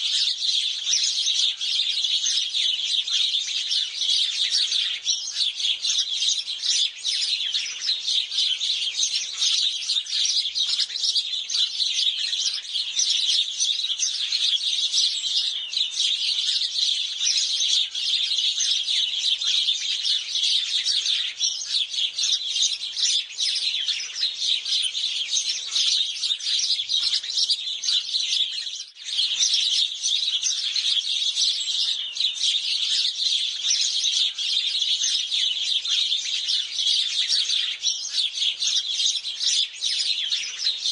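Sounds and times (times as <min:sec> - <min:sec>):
sparrows chirping: 0:00.0 - 0:40.9.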